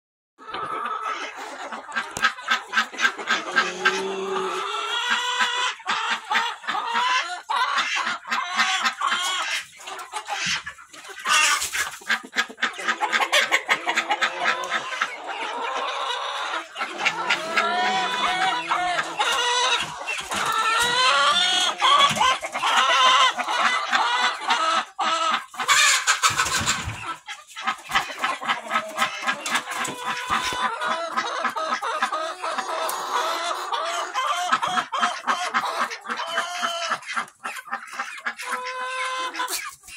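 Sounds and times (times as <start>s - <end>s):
chickens clucking: 0.4s - 39.9s.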